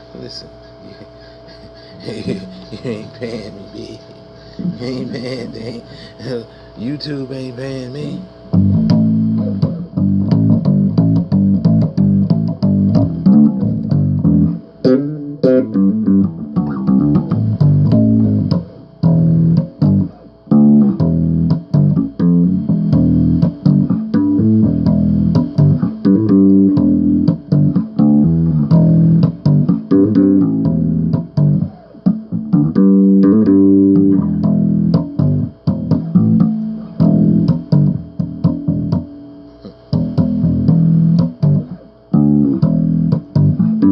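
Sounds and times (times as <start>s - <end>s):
bass guitar riffing: 0.0s - 43.9s.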